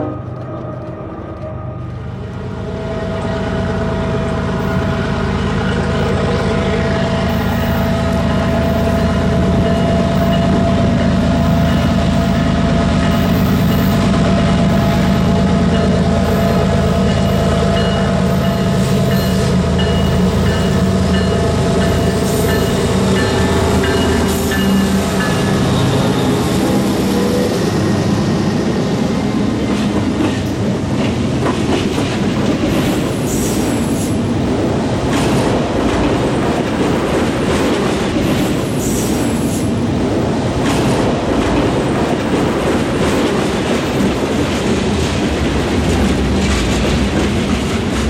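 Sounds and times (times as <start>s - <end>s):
diesel freight train passing: 0.0s - 48.0s.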